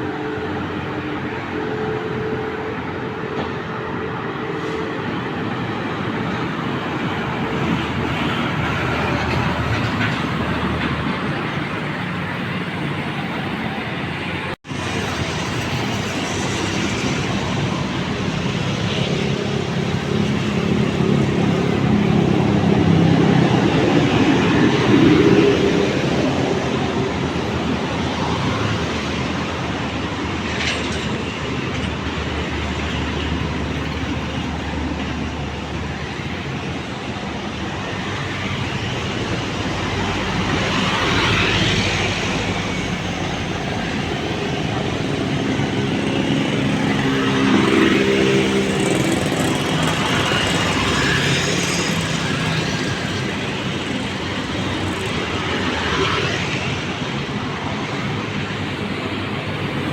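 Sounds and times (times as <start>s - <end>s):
road traffic: 0.0s - 59.9s
vehicles passing close: 0.0s - 59.9s.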